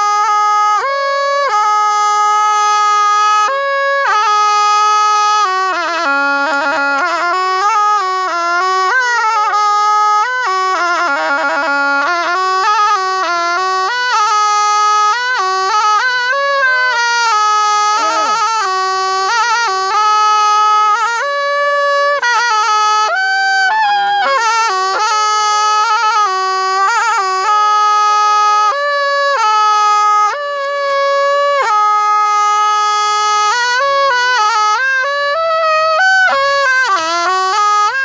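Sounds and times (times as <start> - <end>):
oboe solo melody: 0.0 - 38.0.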